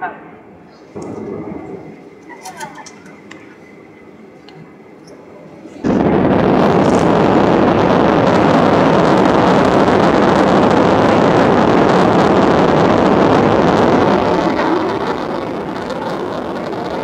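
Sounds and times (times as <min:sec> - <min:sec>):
jet engines roaring in cabin: 0:00.0 - 0:17.0.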